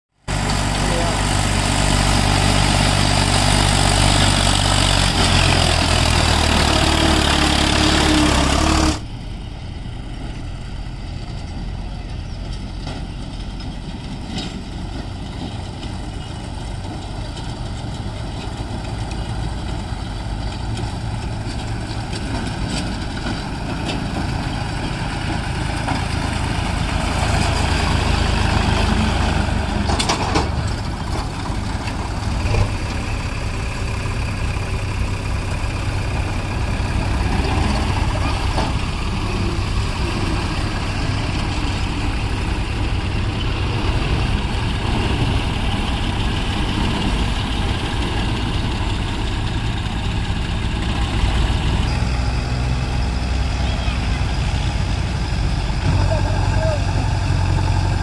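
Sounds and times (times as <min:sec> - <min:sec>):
diesel tractor engine running: 0:00.1 - 0:58.0.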